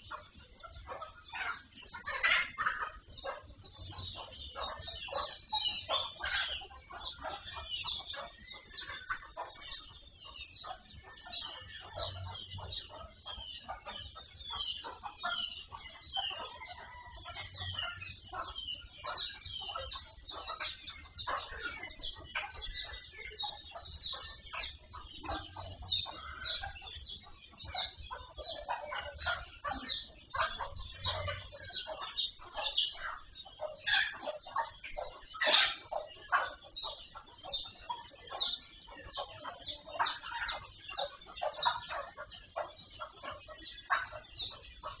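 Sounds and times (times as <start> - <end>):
birds chirping: 0.0 - 45.0
chickens clucking: 0.0 - 45.0.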